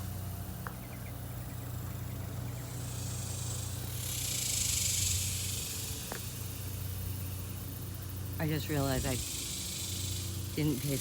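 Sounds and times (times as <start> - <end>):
cicadas buzzing: 0.0 - 11.0
steady low hum: 0.0 - 11.0.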